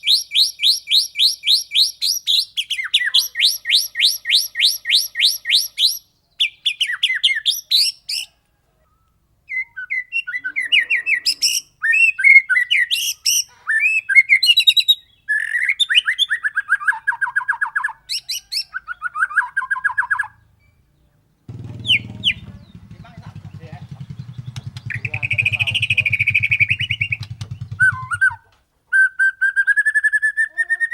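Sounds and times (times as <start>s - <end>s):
bird singing trills: 0.0s - 28.4s.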